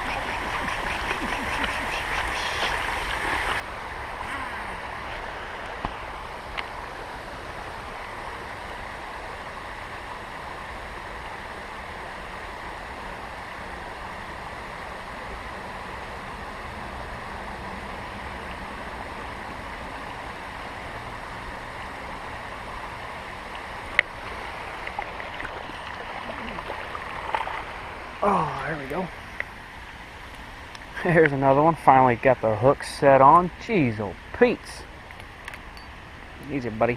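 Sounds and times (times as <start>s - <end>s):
creek water rushing: 0.0s - 36.9s.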